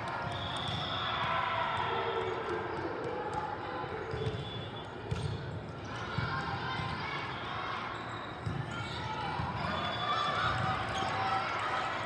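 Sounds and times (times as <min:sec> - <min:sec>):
indistinct voices in a hall: 0:00.0 - 0:12.0.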